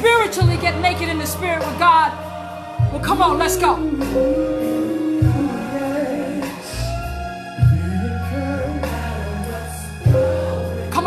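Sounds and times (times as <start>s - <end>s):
gospel music: 0.0s - 11.0s.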